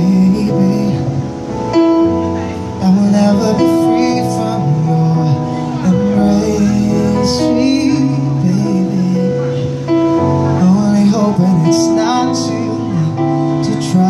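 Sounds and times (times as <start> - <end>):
electronic keyboard chords: 0.0 - 14.0
man singing into microphone: 0.0 - 14.0.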